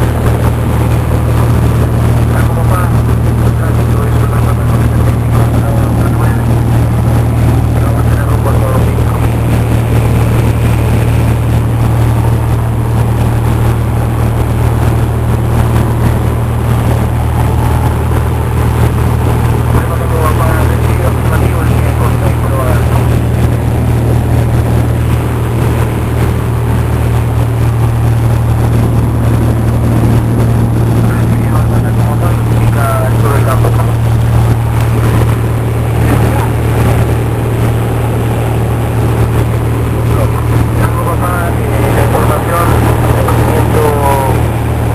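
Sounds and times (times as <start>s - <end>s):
light aircraft engine droning: 0.0s - 44.9s.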